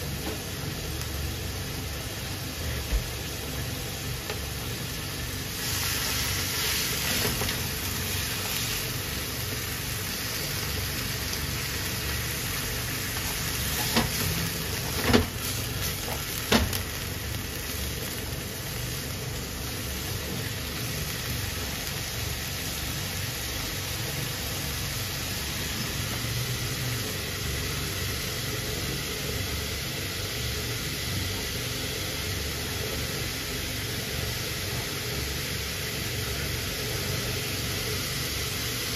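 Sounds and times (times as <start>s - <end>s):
vegetables sizzling in oil: 0.0s - 38.9s.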